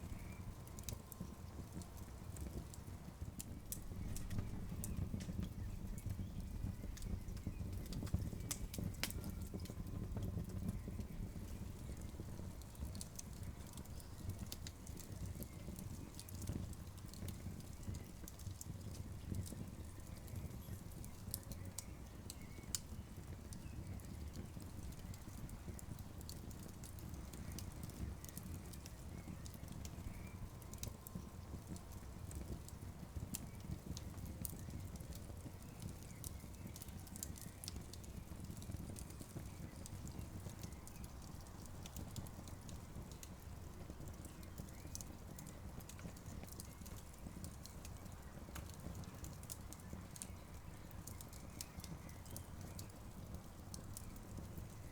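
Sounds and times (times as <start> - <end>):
burning wood crackling: 0.0 - 54.9
campfire flames rumbling: 0.0 - 54.9.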